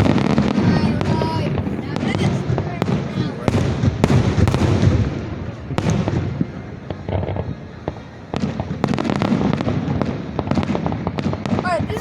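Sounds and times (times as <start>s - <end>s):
aerial shells booming: 0.0s - 11.9s
fireworks crackling: 0.0s - 12.0s.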